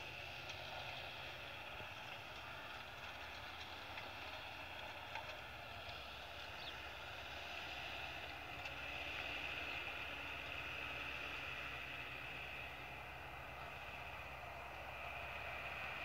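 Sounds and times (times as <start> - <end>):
tractor engine hum: 0.0 - 16.0.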